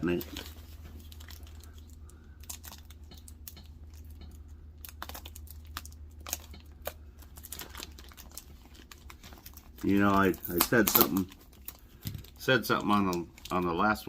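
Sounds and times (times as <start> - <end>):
low steady hum: 0.0 - 14.0
package wrapping crinkling: 0.0 - 14.0.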